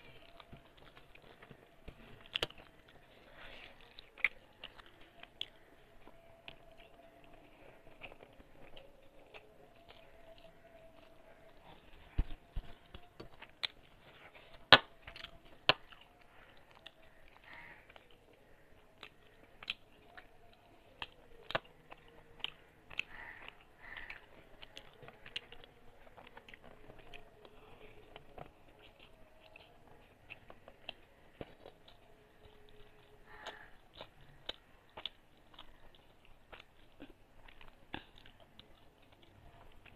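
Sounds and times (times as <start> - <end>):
person chewing: 0.0 - 39.9.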